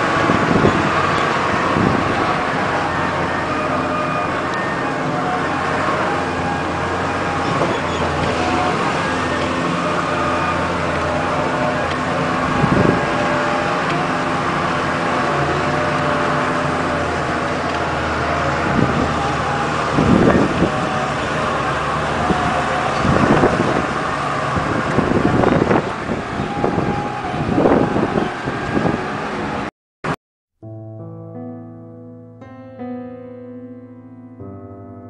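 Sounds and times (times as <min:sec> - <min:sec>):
vehicle engine running: 0:00.0 - 0:29.7
vehicle jolts and rattles: 0:00.0 - 0:29.7.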